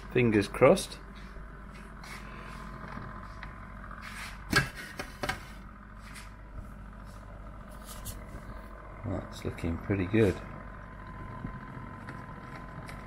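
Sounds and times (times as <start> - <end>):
food dehydrator hum: 0.0 - 13.0.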